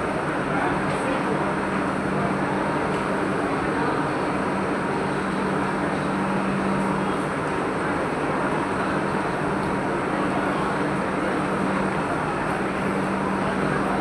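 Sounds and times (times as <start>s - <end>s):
train running with low hum: 0.0s - 14.0s.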